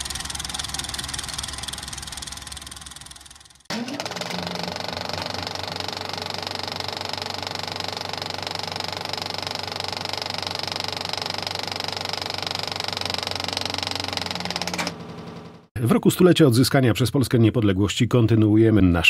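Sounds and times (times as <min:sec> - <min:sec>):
hum: 0:00.0 - 0:15.6
film projector clattering: 0:00.0 - 0:15.7.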